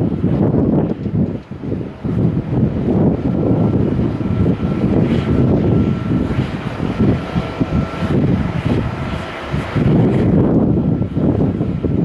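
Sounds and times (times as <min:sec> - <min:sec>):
jet engines roaring: 0:00.0 - 0:12.0
thin steady whine: 0:00.0 - 0:12.0
wind buffeting microphone: 0:00.0 - 0:12.0.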